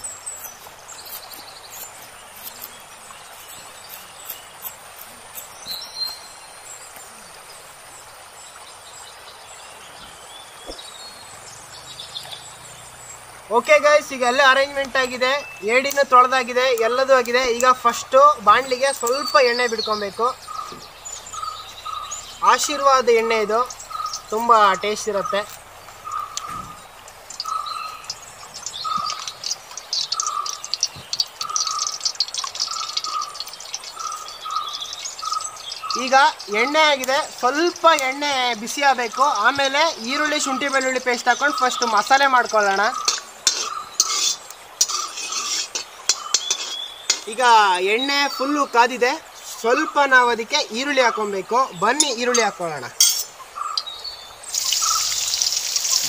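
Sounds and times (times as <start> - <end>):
bird chirp: 0.0 - 56.0
running stream: 0.0 - 56.0.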